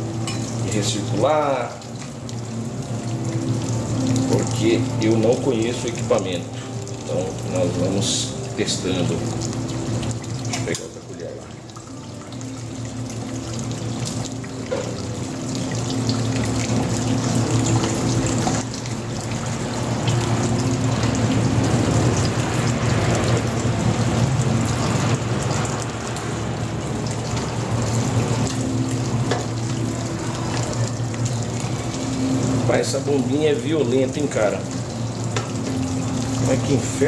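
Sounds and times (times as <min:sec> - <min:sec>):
liquid splashing from pipe: 0:00.0 - 0:37.0
pump humming: 0:00.0 - 0:37.0.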